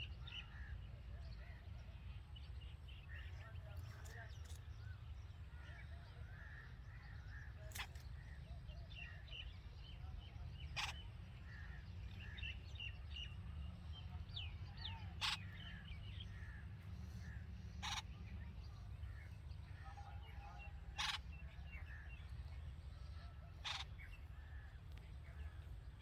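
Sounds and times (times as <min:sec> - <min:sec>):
birds chirping and twittering: 0:00.0 - 0:26.0.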